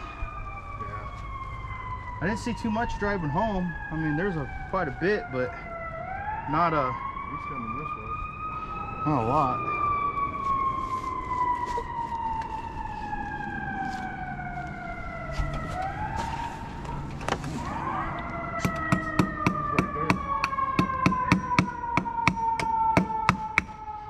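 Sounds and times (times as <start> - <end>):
siren wailing: 0.0 - 24.0.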